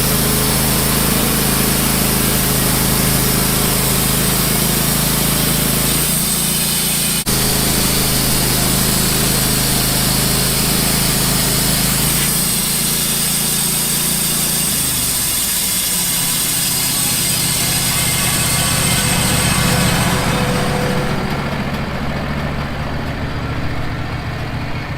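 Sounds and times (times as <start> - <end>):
band sawmill cutting log: 0.0 - 24.9.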